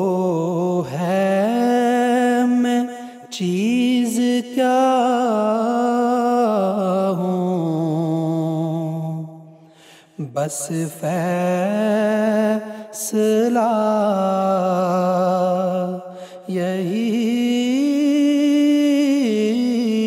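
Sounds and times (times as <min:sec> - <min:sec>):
man singing unaccompanied: 0:00.0 - 0:09.5, 0:10.2 - 0:20.0.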